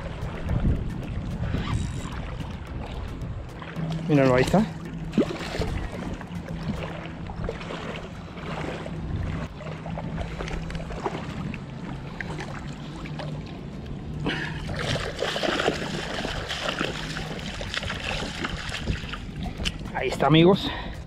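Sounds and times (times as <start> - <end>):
feet wading through water: 0.0 - 21.0
steady low hum: 0.0 - 21.0
water lapping at shore: 0.0 - 21.0.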